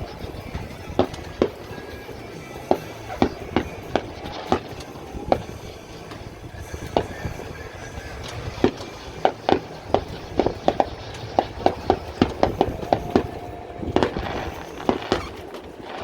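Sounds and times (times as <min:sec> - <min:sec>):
distant fireworks bangs: 0:00.0 - 0:16.0.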